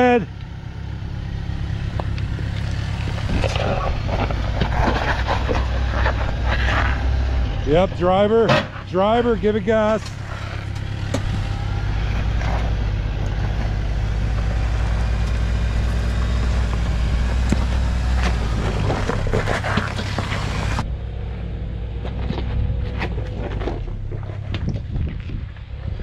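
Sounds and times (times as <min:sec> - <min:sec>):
tires knocking and crunching on rocks: 0:00.0 - 0:21.0, 0:21.9 - 0:26.0
off-road vehicle engine running: 0:00.0 - 0:26.0.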